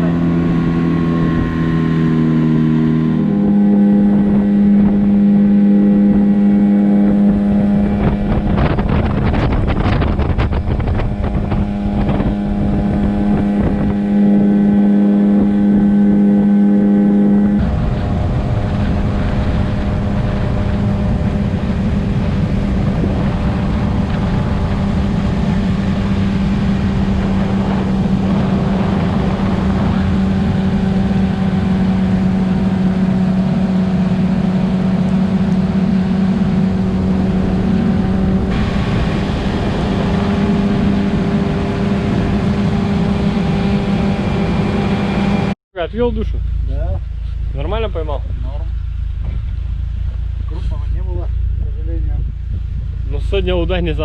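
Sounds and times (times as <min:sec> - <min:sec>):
rushing water: 0:00.0 - 0:45.6
wind on microphone: 0:00.0 - 0:45.6, 0:48.2 - 0:54.0
motorboat engine hum: 0:00.0 - 0:54.0.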